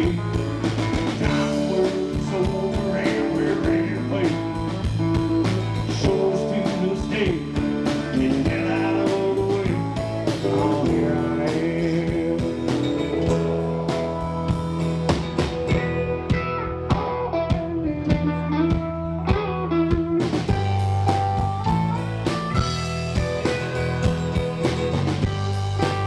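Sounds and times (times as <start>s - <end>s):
bass guitar: 0.0s - 26.0s
drum kit steady beat: 0.0s - 26.0s
electric guitar lead: 0.0s - 26.0s.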